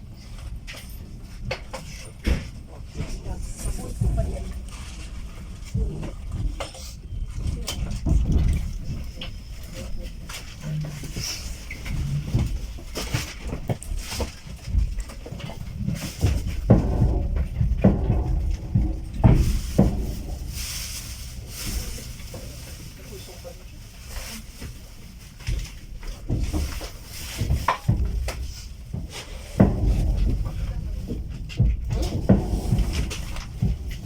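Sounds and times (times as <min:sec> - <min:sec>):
rail carriage rumble: 0:00.0 - 0:34.0
knocks and clunks: 0:00.6 - 0:22.6, 0:25.5 - 0:34.0.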